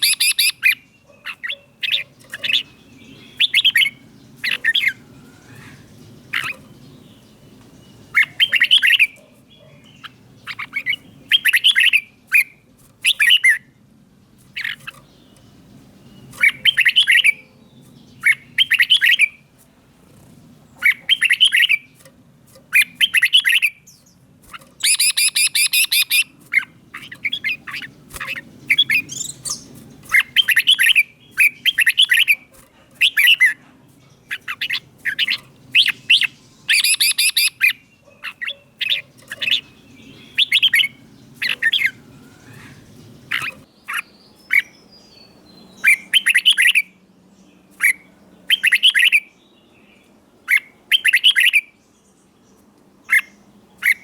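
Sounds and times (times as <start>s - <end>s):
bulbul singing warbled phrases: 0.0s - 13.8s, 14.4s - 19.6s, 20.2s - 51.8s.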